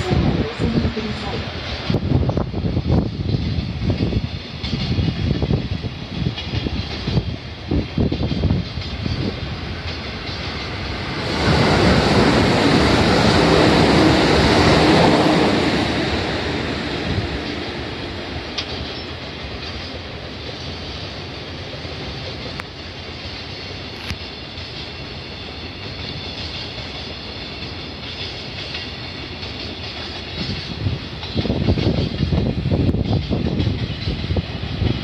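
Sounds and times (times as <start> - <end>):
train rail and wheel noise: 0.0 - 35.0.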